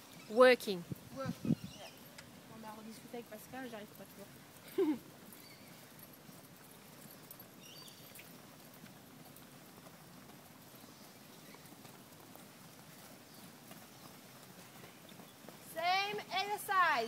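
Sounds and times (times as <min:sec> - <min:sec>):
hoofbeats on sand: 0:00.9 - 0:17.0.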